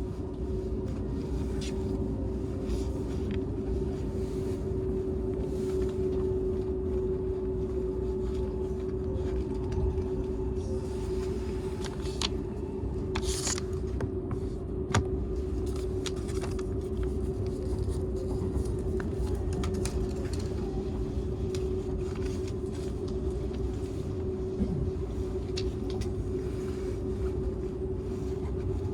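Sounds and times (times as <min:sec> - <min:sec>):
train car low rumble and hum: 0:00.0 - 0:28.9.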